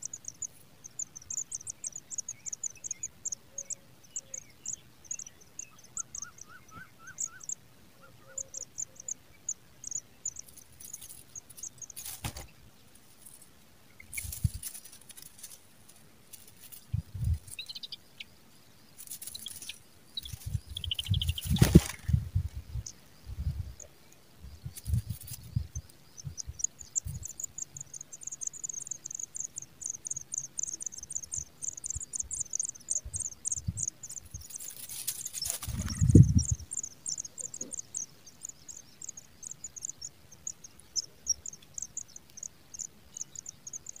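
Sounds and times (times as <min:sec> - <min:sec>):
nestlings twittering: 0:00.0 - 0:12.6, 0:18.9 - 0:23.0, 0:24.6 - 0:44.0
rustle: 0:00.0 - 0:44.0.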